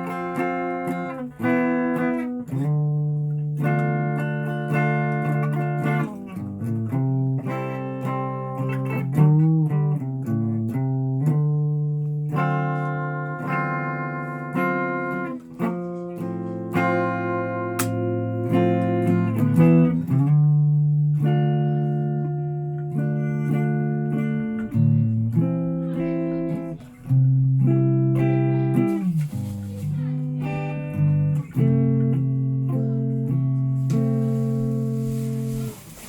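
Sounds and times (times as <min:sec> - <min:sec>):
guitar chords ringing: 0:00.0 - 0:36.0.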